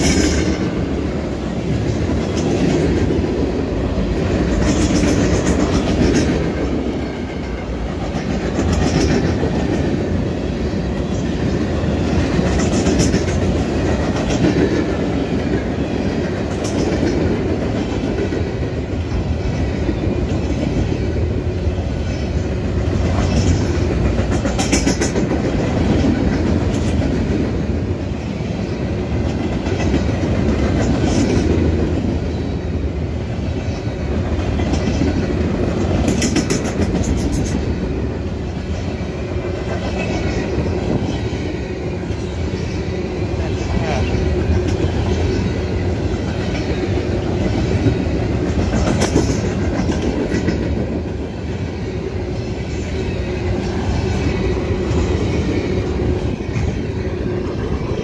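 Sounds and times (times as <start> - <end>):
freight train rumbling: 0.0 - 58.0
train wheels clicking over rail joints: 0.0 - 58.0.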